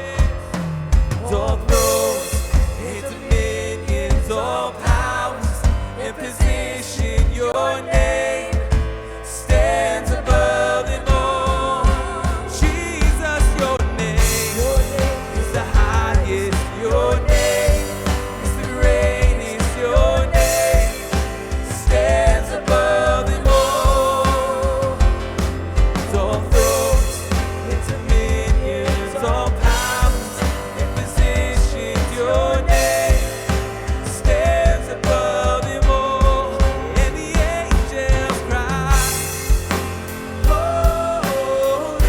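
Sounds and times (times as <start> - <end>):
drum beat with cymbals: 0.0 - 42.0.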